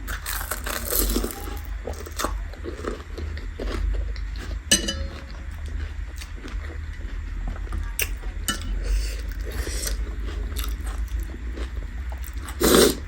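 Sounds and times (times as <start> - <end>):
crunchy biting and chewing: 0.0 - 13.0.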